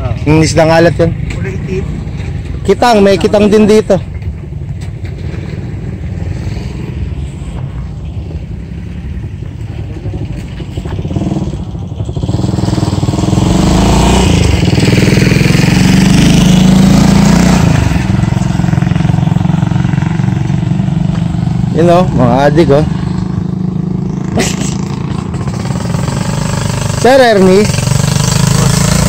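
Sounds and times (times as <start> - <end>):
motorcycle tricycle engine passing: 0.0 - 29.0.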